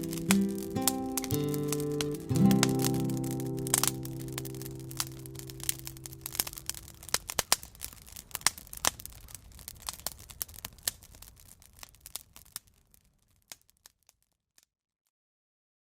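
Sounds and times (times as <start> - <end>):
campfire crackling and popping: 0.0 - 14.2.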